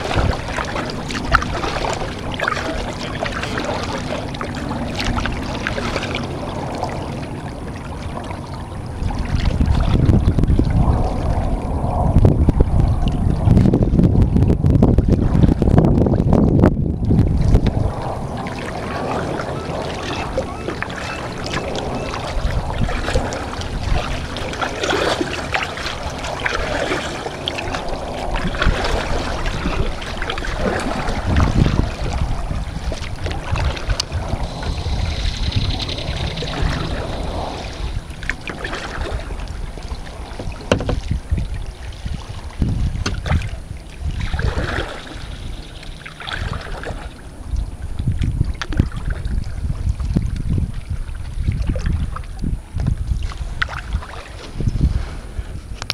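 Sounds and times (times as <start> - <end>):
paddles dipping and splashing: 0.0 - 11.5, 17.4 - 47.6, 48.2 - 55.9
water washing along hull: 0.0 - 55.9
wind rumble on microphone: 0.0 - 55.9.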